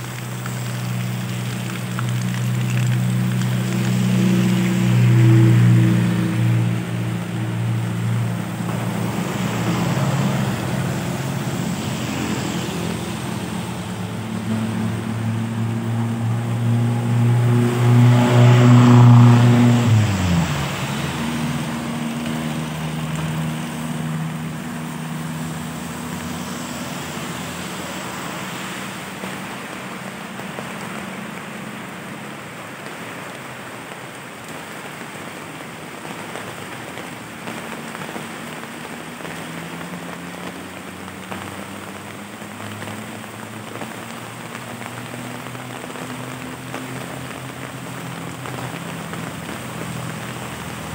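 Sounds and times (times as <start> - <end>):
steady rain: 0.0 - 50.9
vehicle passing on wet road: 0.0 - 50.9.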